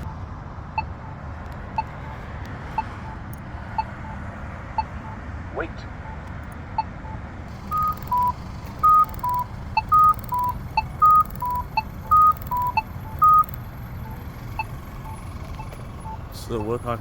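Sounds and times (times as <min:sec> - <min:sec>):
crosswalk signal beeps: 0:00.0 - 0:17.0
push-button locator tone ticking: 0:00.0 - 0:17.0.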